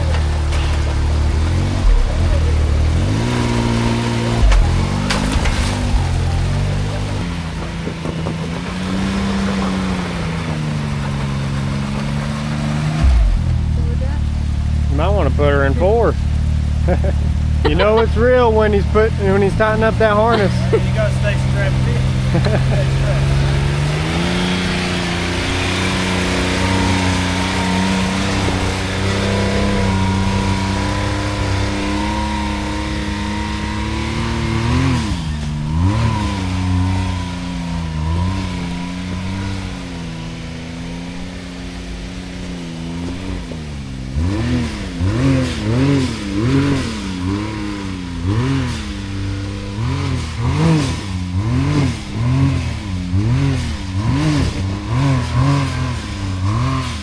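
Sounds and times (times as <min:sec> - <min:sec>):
utility vehicle engine revving: 0:00.0 - 0:57.0.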